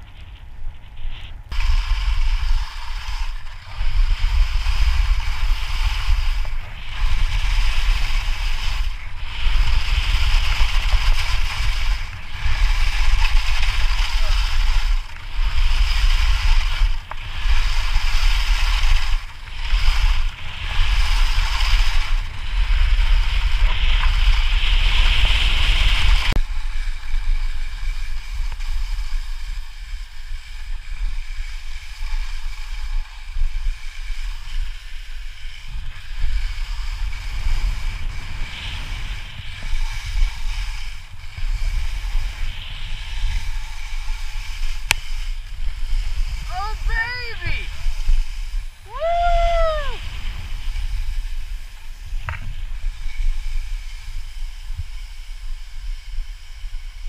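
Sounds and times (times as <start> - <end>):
skis scraping over snow: 0.0 - 57.0
wind buffeting microphone: 0.0 - 57.0.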